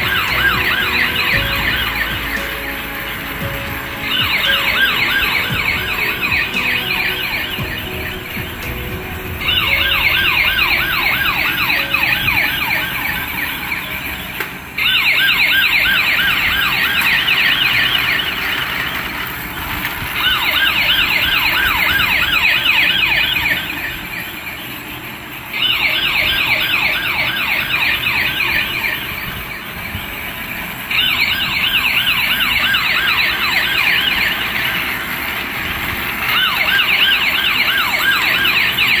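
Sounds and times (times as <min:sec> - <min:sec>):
toy police siren yelping: 0:00.0 - 0:24.6, 0:25.4 - 0:39.0.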